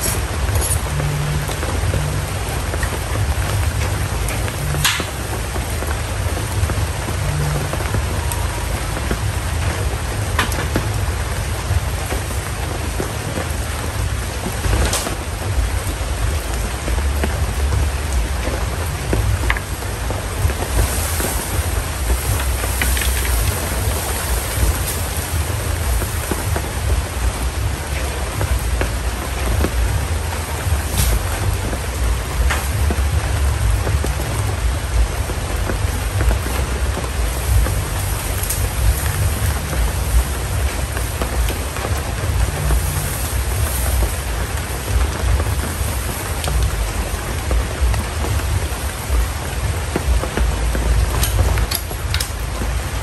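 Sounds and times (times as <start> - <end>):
low rumble: 0.0 - 53.0
steady rain: 0.0 - 53.0.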